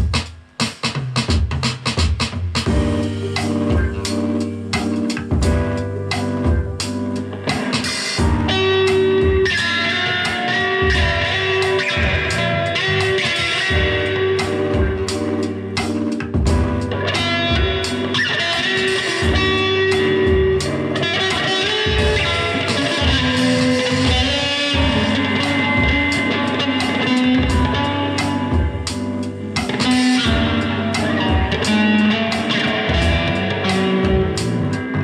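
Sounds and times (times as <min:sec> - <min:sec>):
drum hits: 0:00.0 - 0:35.0
bass line: 0:02.6 - 0:35.0
electric guitar through amplifier: 0:02.7 - 0:35.0.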